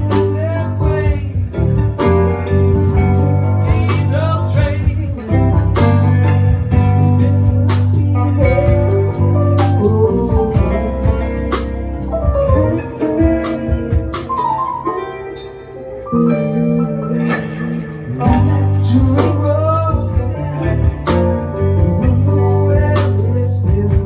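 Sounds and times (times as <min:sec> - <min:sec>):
band playing guitar music: 0:00.0 - 0:24.0.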